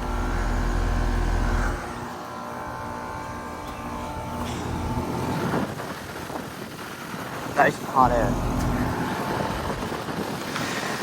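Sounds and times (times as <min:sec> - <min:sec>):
heat pump humming with thin whine: 0:00.0 - 0:11.0.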